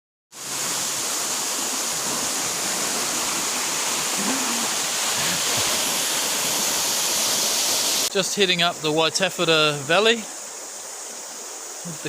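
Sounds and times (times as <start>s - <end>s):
stream water rushing: 0.4s - 12.0s.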